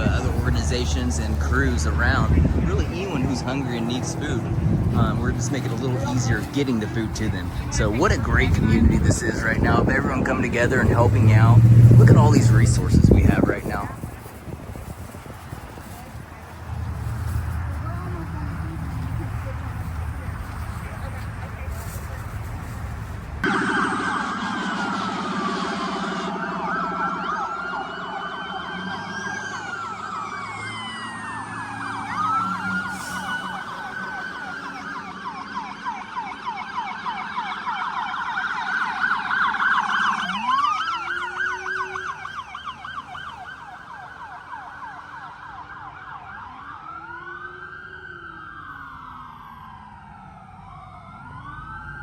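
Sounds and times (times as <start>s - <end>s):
emergency sirens yelping: 0.0s - 52.0s
sirens wailing: 0.0s - 52.0s.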